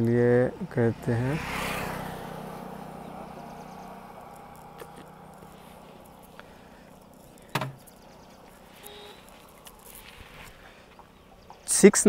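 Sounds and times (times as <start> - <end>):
road vehicle humming: 0.0 - 11.7.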